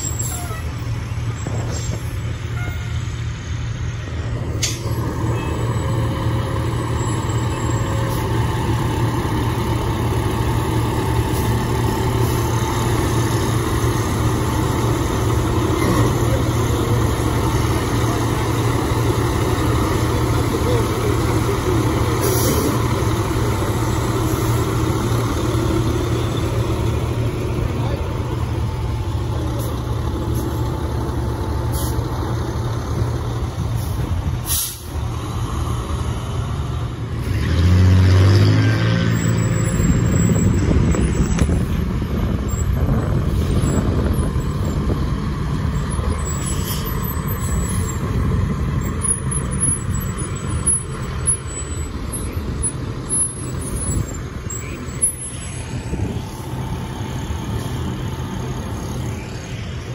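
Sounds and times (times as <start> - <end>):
diesel trucks driving past: 0.0 - 59.9.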